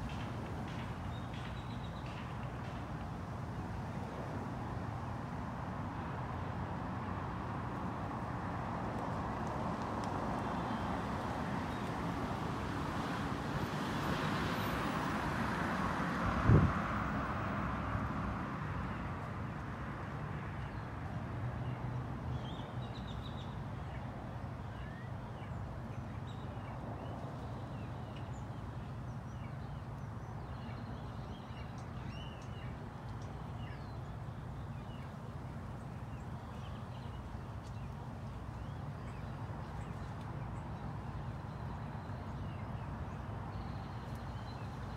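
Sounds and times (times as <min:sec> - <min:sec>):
low traffic hum: 0:00.0 - 0:44.9.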